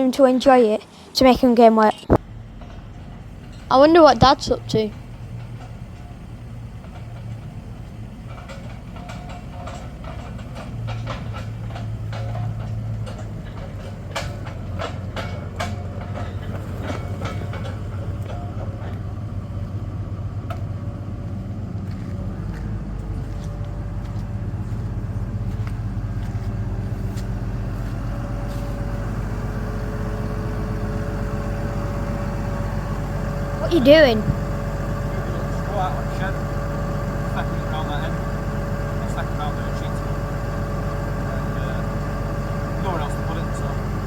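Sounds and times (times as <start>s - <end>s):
farm vehicle engine running: 0.0s - 44.0s
rattles and knocks: 2.1s - 44.0s.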